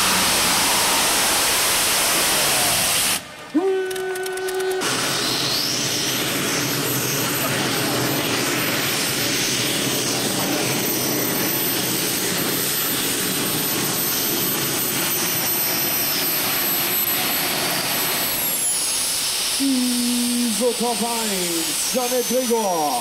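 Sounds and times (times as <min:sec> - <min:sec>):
tractor engine at full power: 0:00.0 - 0:23.0.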